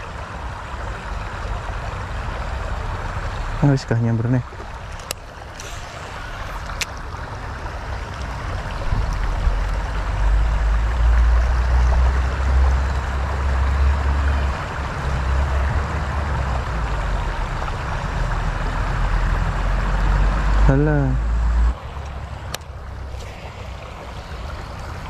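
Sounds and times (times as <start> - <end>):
river rushing over stones: 0.0 - 25.0.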